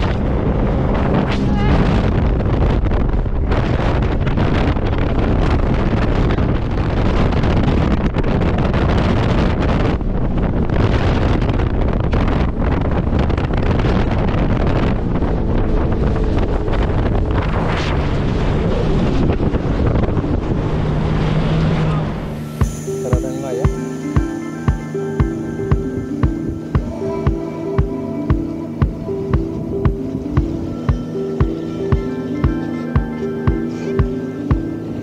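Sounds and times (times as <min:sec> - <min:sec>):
jet ski engine running: 0:00.0 - 0:35.0
wind buffeting microphone: 0:00.0 - 0:35.0.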